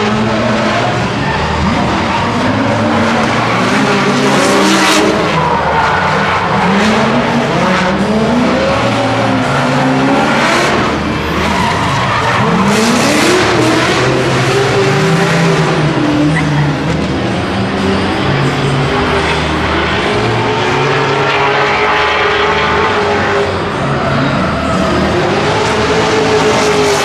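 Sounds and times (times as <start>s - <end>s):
car engine revving: 0.0s - 27.0s
tire screech and skidding: 0.0s - 27.0s.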